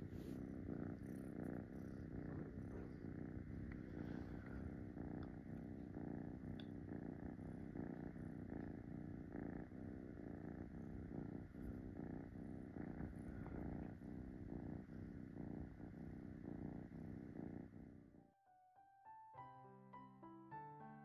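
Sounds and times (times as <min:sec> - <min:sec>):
kitten purring: 0:00.0 - 0:18.3.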